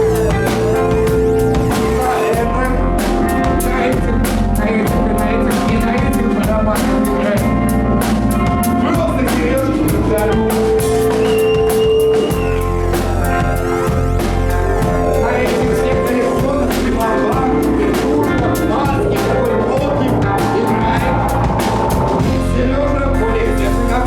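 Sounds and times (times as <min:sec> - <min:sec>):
distorted electric guitars: 0:00.0 - 0:24.0
live rock band playing: 0:00.0 - 0:24.0.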